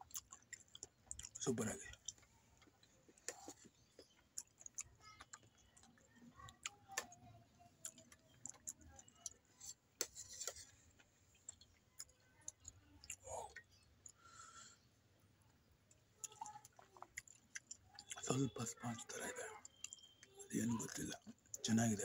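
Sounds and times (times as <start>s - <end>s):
quiet chewing: 0.0s - 21.9s.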